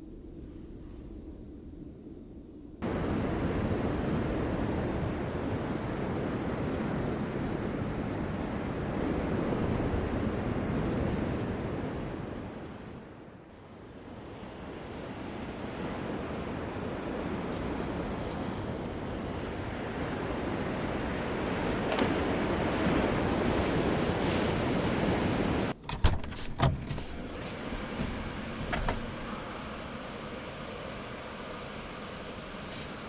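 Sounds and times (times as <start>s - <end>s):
sea waves breaking on shore: 2.8s - 25.8s, 27.0s - 33.0s.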